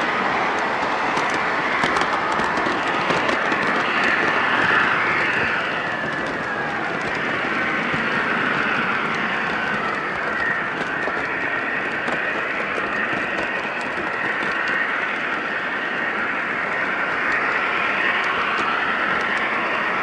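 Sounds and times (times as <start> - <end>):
model train whirring: 0.0 - 20.0.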